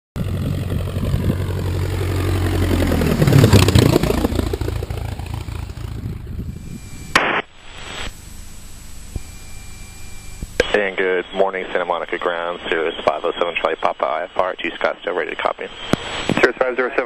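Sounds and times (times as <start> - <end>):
aircraft engine humming: 0.2 - 17.0.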